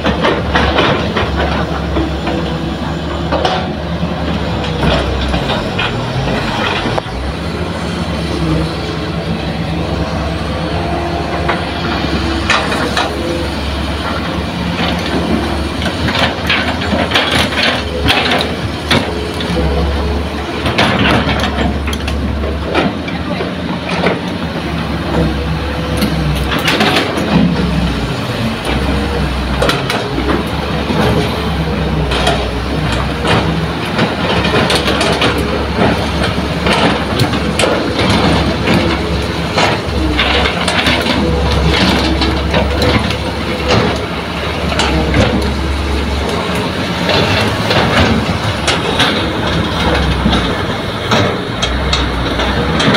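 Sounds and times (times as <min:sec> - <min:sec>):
heavy diesel machinery running: 0:00.0 - 0:52.9
metal clanks and knocks: 0:03.2 - 0:07.1, 0:10.8 - 0:24.4, 0:25.0 - 0:52.9.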